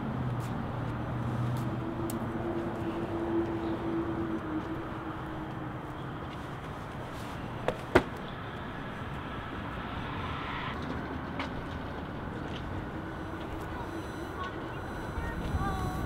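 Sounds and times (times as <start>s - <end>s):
city road traffic hum: 0.0s - 16.0s.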